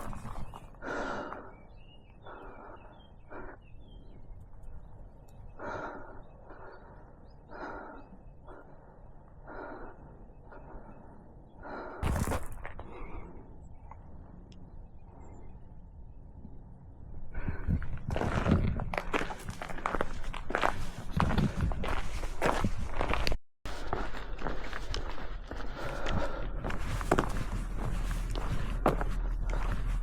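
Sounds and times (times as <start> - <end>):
person breathing heavily: 0.0 - 4.2, 5.5 - 13.6, 17.3 - 30.0.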